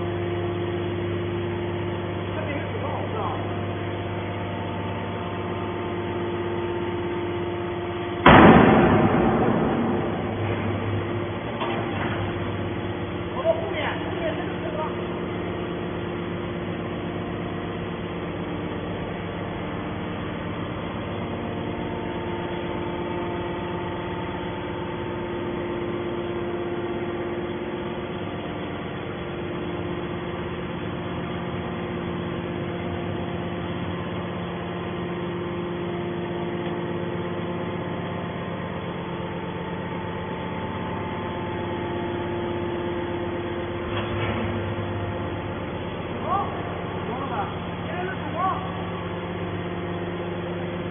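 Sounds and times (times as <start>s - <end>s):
hydraulic machine hum: 0.0s - 50.9s.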